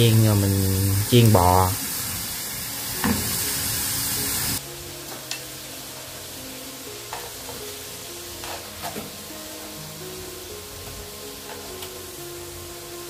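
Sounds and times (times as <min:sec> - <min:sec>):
background music: 0:00.0 - 0:13.0
food sizzling in hot oil: 0:00.0 - 0:13.0.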